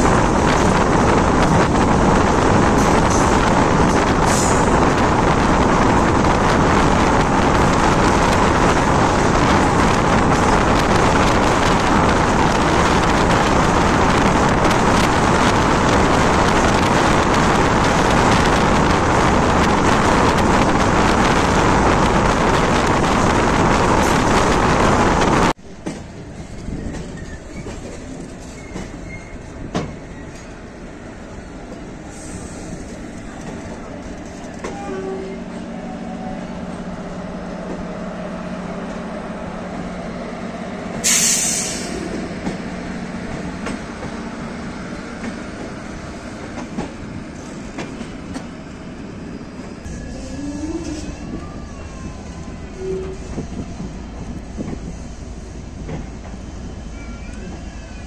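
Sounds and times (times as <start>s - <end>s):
train rumbling at speed: 0.0s - 58.0s.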